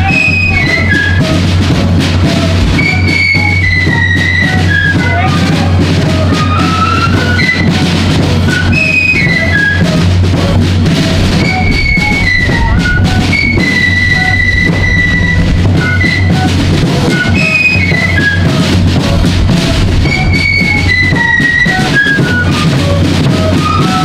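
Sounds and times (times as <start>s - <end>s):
flutes playing melody: 0.0s - 24.0s
steady drum beat: 0.0s - 24.0s.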